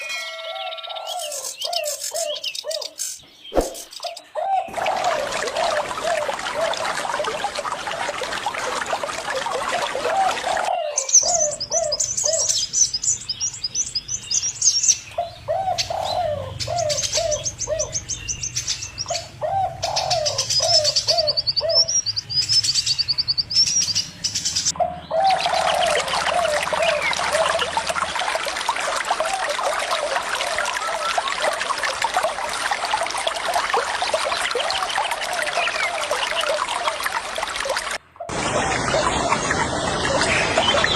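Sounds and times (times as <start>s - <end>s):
birds calling: 0.0s - 40.9s
running water: 4.7s - 21.9s, 24.4s - 40.9s.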